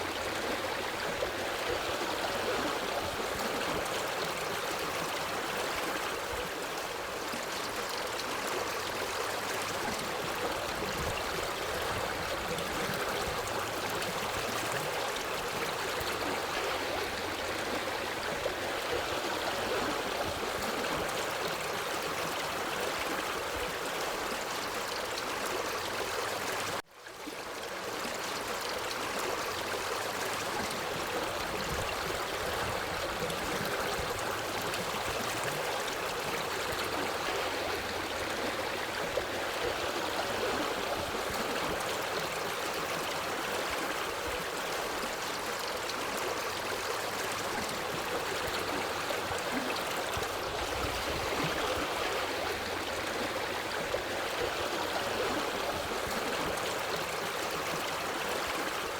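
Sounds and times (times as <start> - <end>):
stream flowing over rocks: 0.0 - 58.9.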